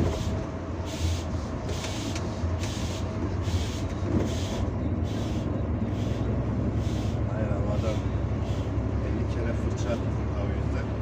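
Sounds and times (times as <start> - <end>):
bus engine and road drone: 0.0 - 11.0.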